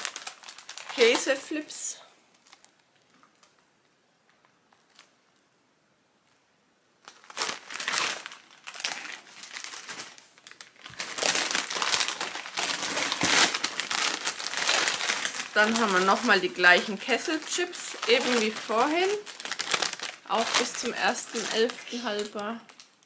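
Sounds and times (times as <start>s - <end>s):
plastic snack bags crinkling: 0.0s - 5.4s, 7.0s - 23.0s.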